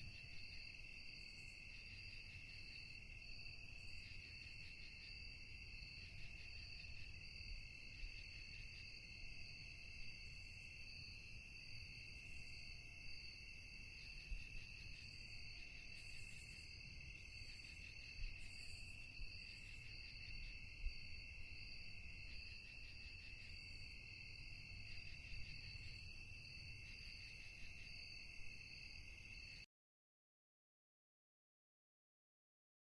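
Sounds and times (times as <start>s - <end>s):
crickets chirping: 0.0s - 29.7s.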